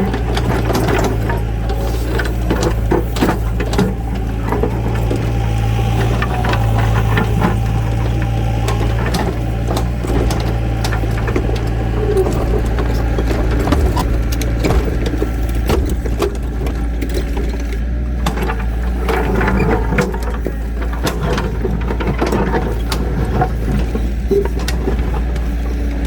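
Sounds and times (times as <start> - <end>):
engine humming: 0.0 - 26.0
knocks and clatters: 0.0 - 26.0.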